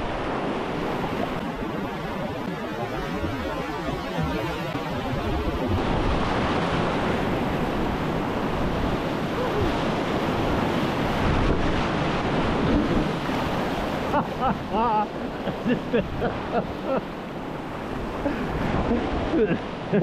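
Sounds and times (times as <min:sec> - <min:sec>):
whitewater rushing: 0:00.0 - 0:20.0.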